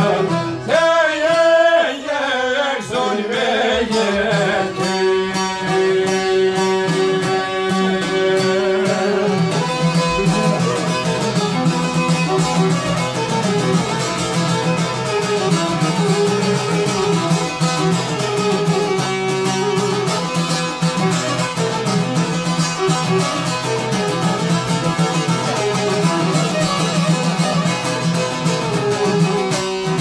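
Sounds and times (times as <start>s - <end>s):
plucked lutes strummed: 0.0s - 30.0s
violin: 0.0s - 30.0s.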